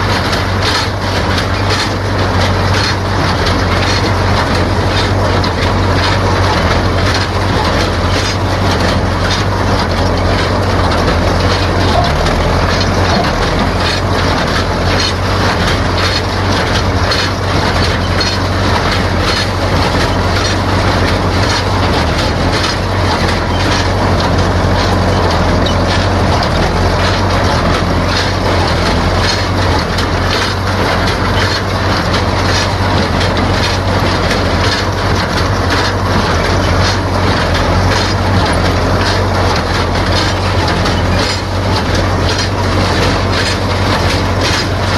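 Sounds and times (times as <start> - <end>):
hay baler clacking: 0.0 - 44.9
tractor engine running: 0.0 - 44.9.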